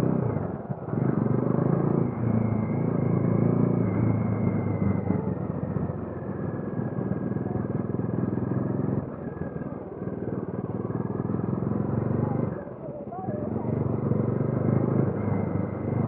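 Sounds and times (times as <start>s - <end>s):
motorcycle engine and exhaust: 0.0s - 16.0s.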